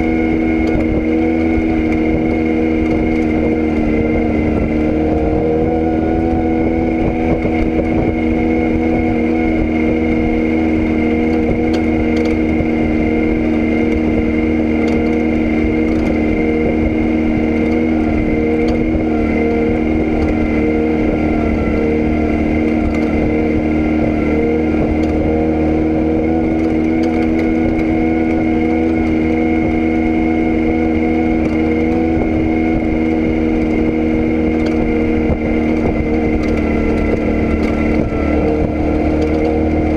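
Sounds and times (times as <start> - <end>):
engine droning hum: 0.0 - 39.9.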